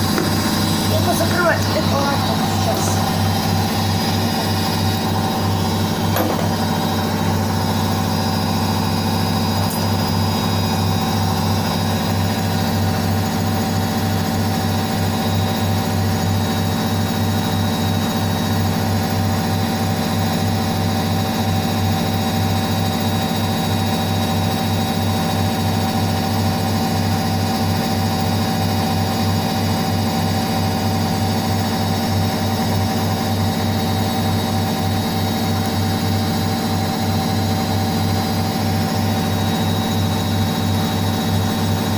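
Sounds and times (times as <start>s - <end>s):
motor whine: 0.0s - 41.9s
washing machine spinning: 0.0s - 41.9s.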